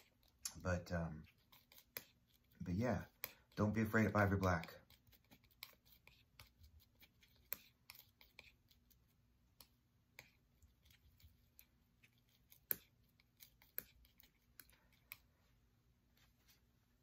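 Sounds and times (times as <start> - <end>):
palette knife scraping paint: 0.0 - 15.5.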